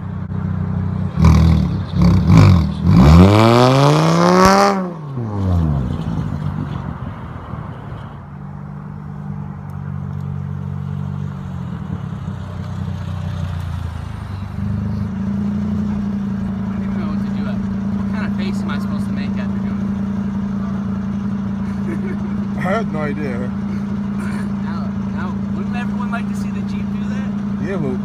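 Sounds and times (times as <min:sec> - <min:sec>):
car engine idling: 0:00.0 - 0:28.0
car engine revving: 0:00.0 - 0:28.0.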